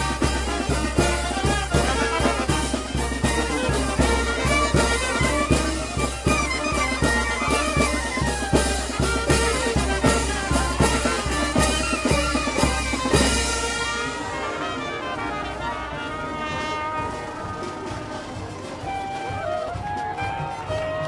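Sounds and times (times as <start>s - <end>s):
brass band melody: 0.0s - 21.0s
steady drum beat: 0.0s - 21.0s.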